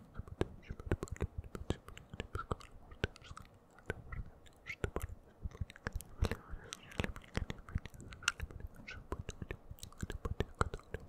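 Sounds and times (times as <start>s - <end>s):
soft whispering: 0.0s - 11.0s
wet mouth clicks and smacks: 0.0s - 11.0s.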